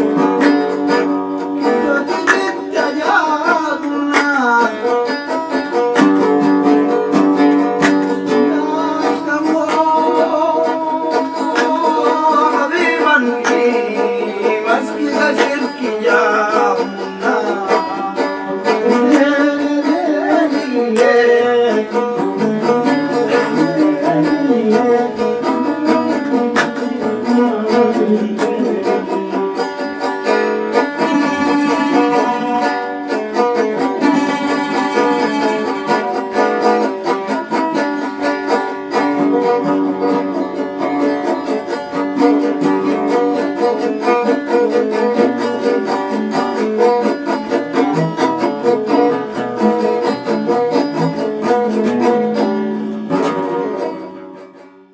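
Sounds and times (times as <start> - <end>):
oud and lyre plucked together: 0.0 - 54.9.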